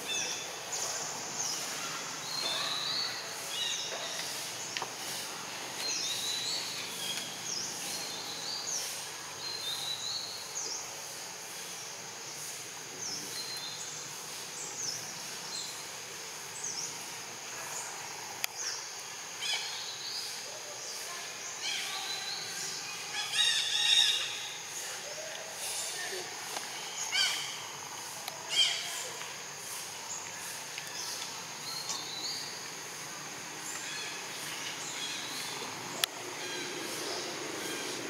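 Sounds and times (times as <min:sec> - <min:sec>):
insect hiss: 0:00.0 - 0:38.0.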